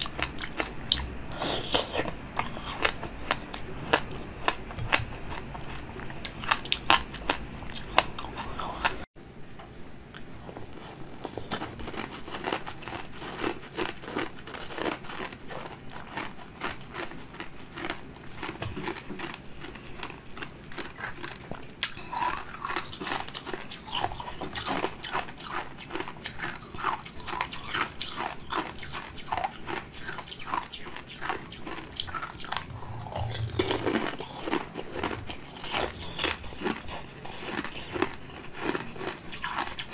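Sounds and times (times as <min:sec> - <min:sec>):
ice being chewed crunching: 0:00.0 - 0:09.0, 0:10.5 - 0:39.9.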